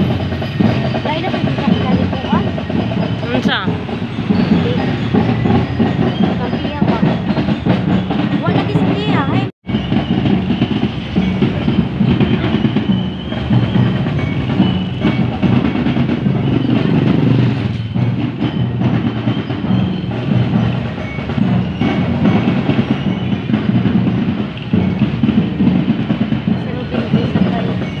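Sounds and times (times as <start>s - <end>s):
motorcycle engines rumbling: 0.0s - 28.0s
rhythmic percussion knocking: 0.0s - 28.0s.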